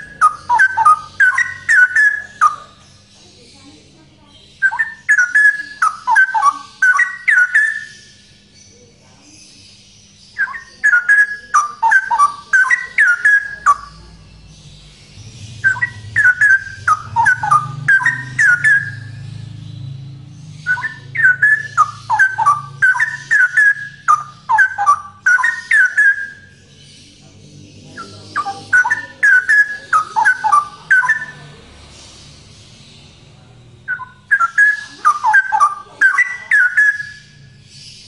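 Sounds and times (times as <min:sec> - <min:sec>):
bird singing warbled phrases: 0:00.0 - 0:38.0
faint low hum: 0:00.0 - 0:38.0.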